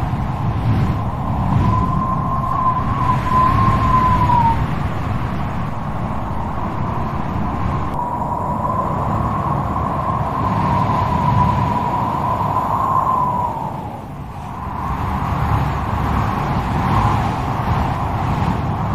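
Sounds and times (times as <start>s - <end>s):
strong wind rumbling: 0.0s - 18.9s
wind howling: 0.0s - 18.9s.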